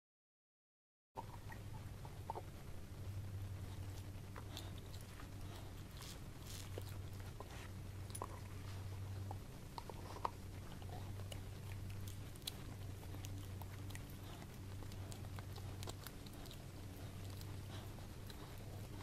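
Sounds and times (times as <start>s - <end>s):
low steady hum: 1.2s - 19.0s.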